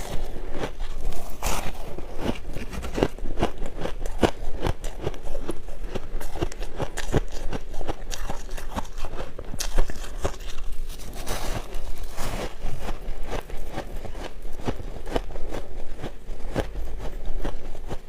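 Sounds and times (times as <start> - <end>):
ice crunching while chewed: 0.0 - 18.0.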